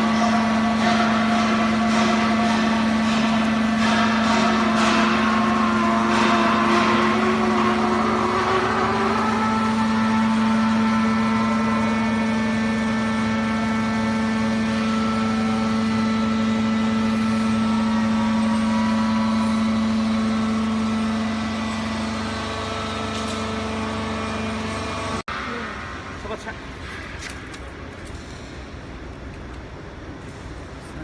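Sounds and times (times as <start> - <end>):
baling machine humming: 0.0 - 27.2.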